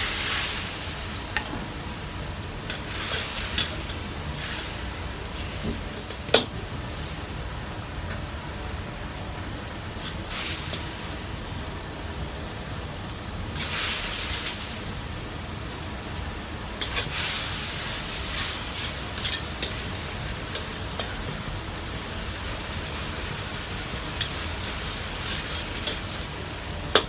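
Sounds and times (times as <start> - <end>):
gas burner rumble: 0.0 - 27.0
noodles sizzling in a wok: 0.0 - 27.0.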